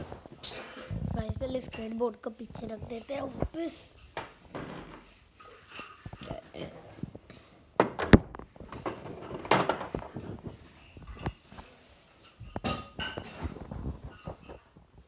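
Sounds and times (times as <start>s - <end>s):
things being handled and moved: 0.0s - 15.0s.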